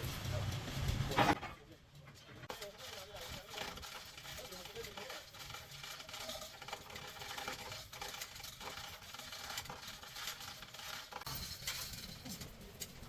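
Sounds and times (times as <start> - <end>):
small hard parts clicking and scraping: 0.2 - 13.0.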